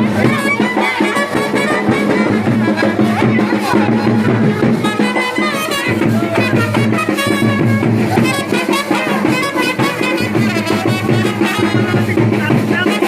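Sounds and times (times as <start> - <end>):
loud music with drums: 0.0 - 13.0.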